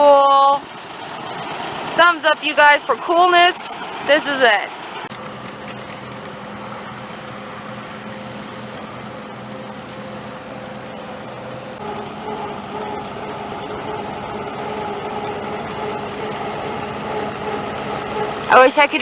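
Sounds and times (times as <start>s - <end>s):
tractor approaching: 0.0s - 19.0s
tractor engines running: 0.0s - 19.0s.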